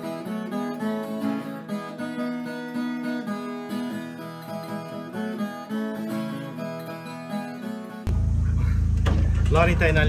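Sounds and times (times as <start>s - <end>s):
acoustic guitar plucked and strummed: 0.0s - 10.0s.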